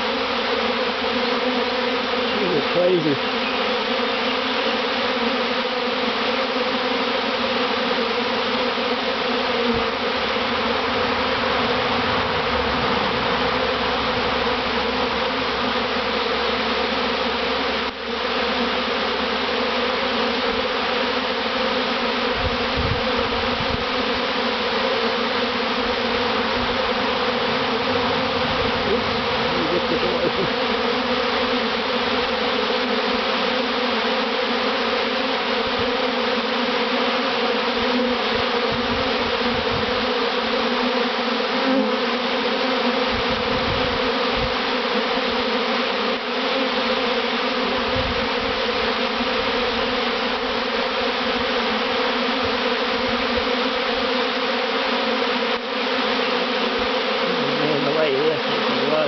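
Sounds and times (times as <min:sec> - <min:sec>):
bee swarm buzzing: 0:00.0 - 0:59.0.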